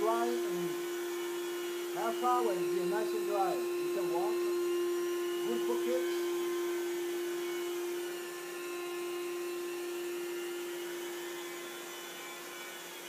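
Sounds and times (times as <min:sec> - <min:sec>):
carpet cleaning machine running: 0:00.0 - 0:13.0.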